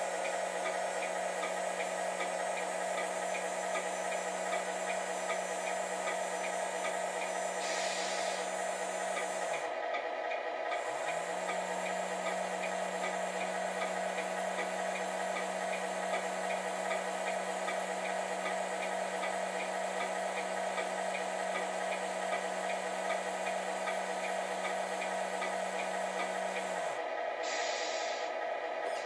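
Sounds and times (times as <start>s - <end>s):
model truck motor hum: 0.0s - 27.4s.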